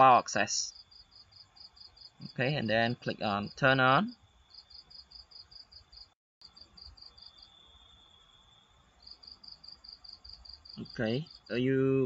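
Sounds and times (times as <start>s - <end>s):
faint high-pitched chirping: 0.0s - 12.0s
low background hiss: 0.0s - 12.0s.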